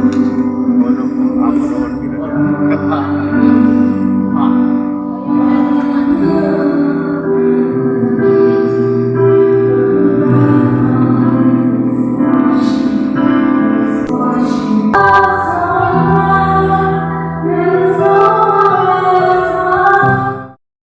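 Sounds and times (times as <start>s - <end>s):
keyboard chords: 0.0s - 20.6s
woman singing: 0.0s - 20.6s.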